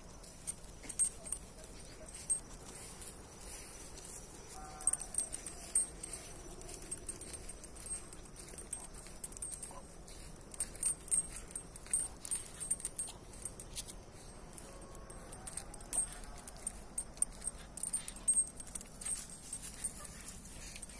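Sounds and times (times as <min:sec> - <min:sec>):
metal chain leash jingling: 0:00.0 - 0:20.9.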